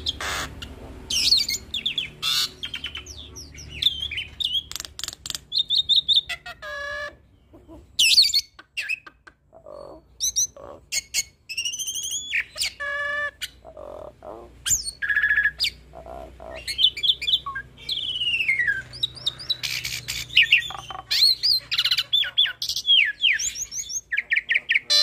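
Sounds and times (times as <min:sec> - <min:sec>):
starling singing: 0:00.0 - 0:25.0.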